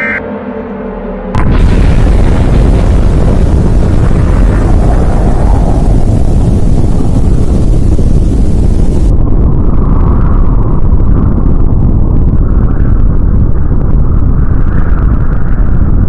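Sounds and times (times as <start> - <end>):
explosion-like rumble: 1.1 - 16.0.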